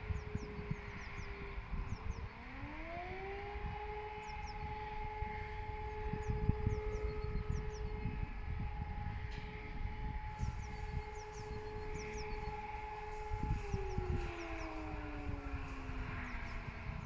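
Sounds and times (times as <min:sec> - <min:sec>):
civil defense siren: 0:00.0 - 0:17.0
distant siren tone: 0:00.0 - 0:17.0.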